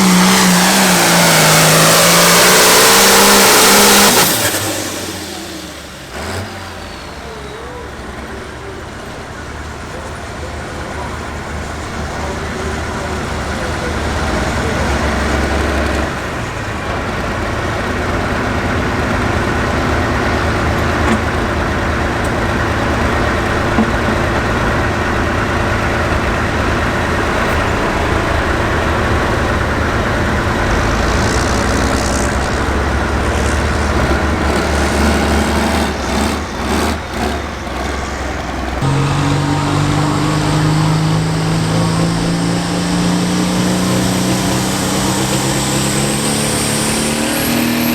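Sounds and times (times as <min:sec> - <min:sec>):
engine with rising pitch: 0:00.0 - 0:47.9
tractor diesel engine under load: 0:00.0 - 0:47.9.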